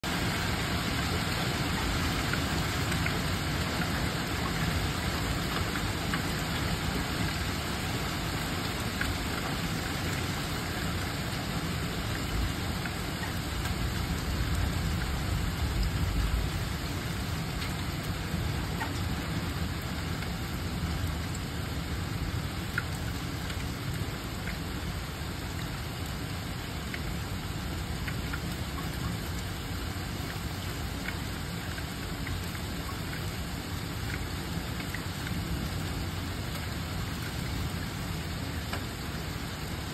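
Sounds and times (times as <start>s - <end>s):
heavy rain and hail pouring: 0.0s - 39.9s.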